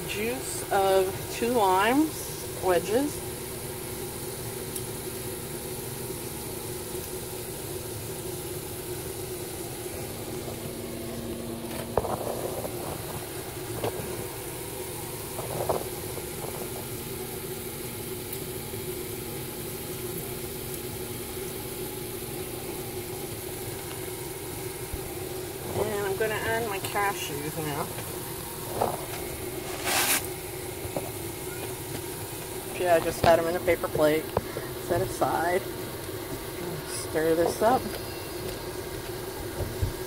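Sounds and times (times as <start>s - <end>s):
motor hum: 0.0s - 40.0s.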